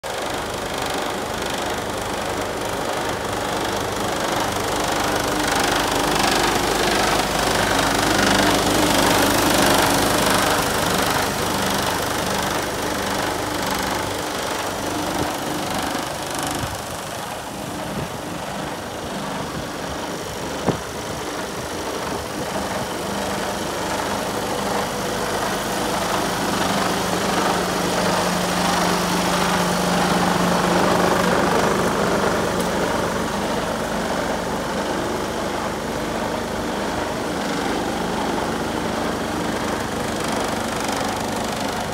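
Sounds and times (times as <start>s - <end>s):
diesel engine idling: 0.1s - 41.9s.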